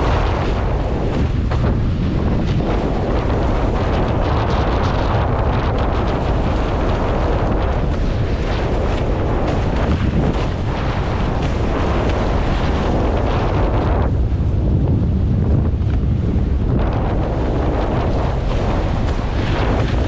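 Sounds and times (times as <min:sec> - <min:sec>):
water rushing past hull: 0:00.0 - 0:20.0
wind buffeting microphone: 0:00.0 - 0:20.0.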